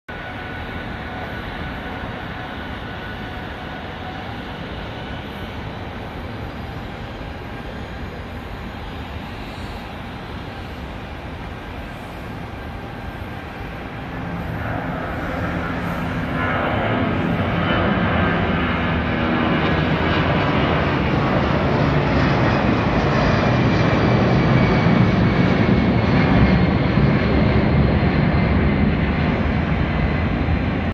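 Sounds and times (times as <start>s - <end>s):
jet engines at takeoff power: 0.1s - 30.9s.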